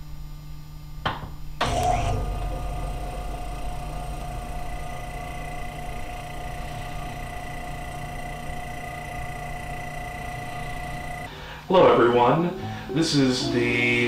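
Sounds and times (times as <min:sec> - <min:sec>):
refrigerator compressor humming: 0:00.0 - 0:14.0.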